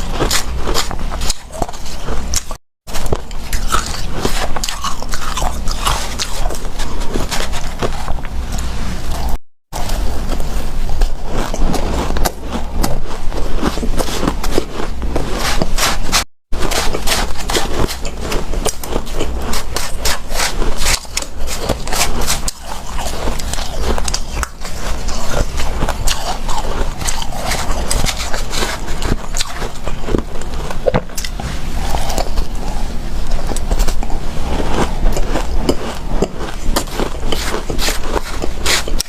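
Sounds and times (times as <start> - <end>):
crunchy ice chewing: 0.0 - 39.0.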